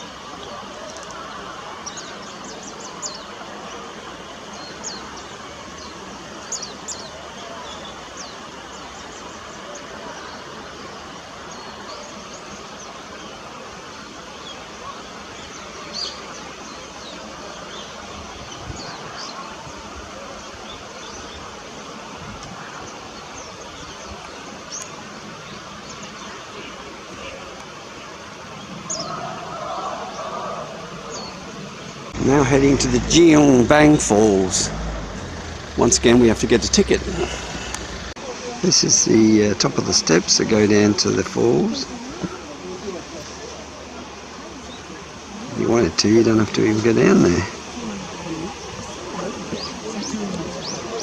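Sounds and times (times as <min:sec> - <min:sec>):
outdoor background hiss: 0:00.0 - 0:51.0
small birds chirping: 0:00.0 - 0:51.0.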